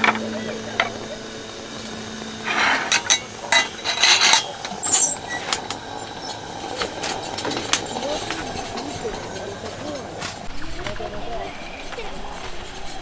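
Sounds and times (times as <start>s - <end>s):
lantern burner hissing: 0.0s - 13.0s.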